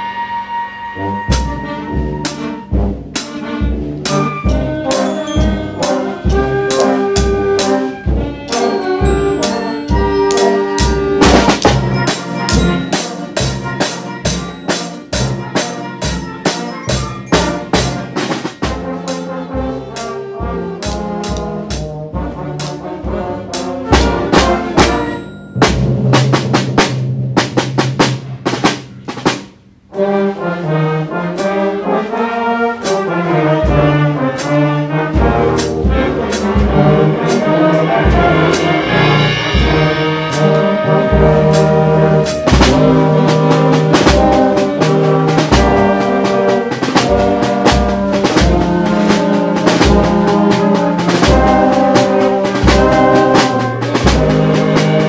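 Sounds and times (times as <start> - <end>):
band music with brass horns: 0.0 - 55.0
steady drum beat: 1.3 - 29.9, 32.8 - 55.0.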